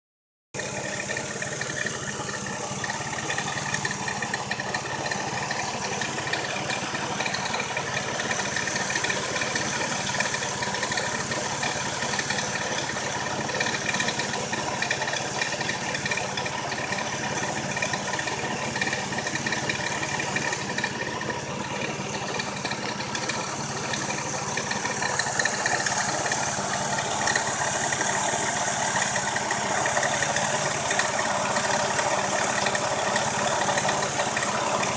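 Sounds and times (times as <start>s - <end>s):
engine idling with rattle: 0.6s - 34.9s.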